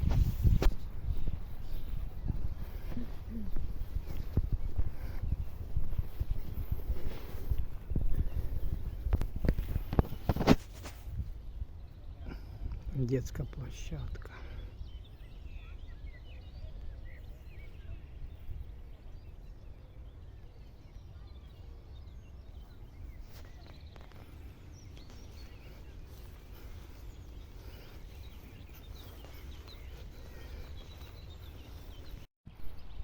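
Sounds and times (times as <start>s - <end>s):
wind rumble on microphone: 0.0s - 14.1s, 14.7s - 33.0s
faint bird chirps: 0.5s - 10.5s, 11.2s - 33.0s.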